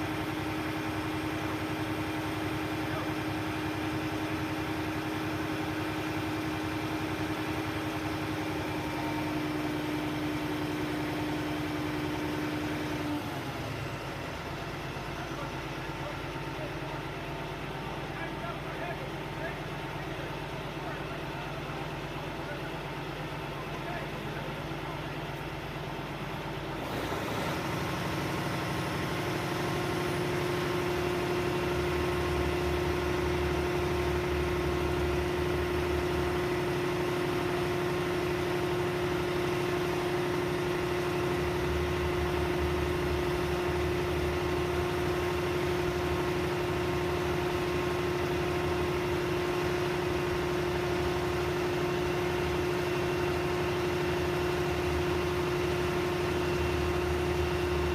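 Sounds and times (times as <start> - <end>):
crane engine running: 0.0 - 57.9.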